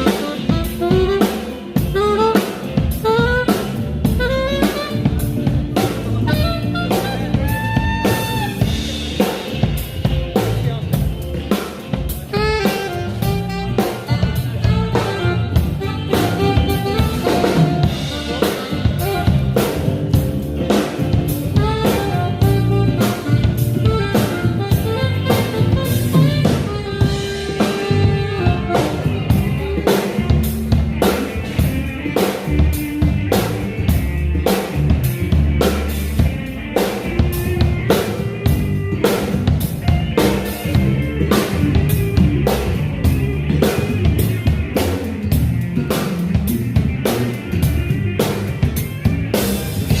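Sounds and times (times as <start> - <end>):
band music: 0.0 - 50.0
drum kit beat: 0.0 - 50.0.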